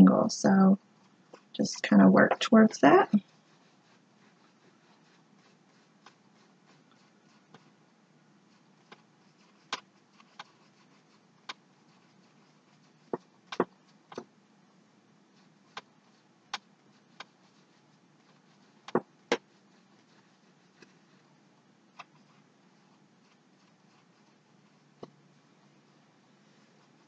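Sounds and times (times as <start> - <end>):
faint room hum: 0.0 - 27.0.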